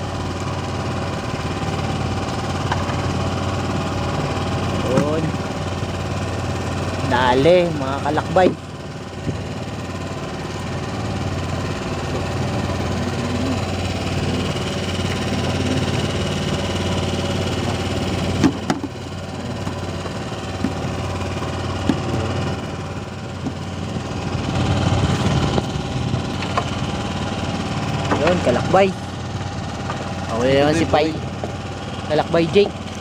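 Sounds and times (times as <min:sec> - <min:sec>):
small boat engine idling: 0:00.0 - 0:33.0.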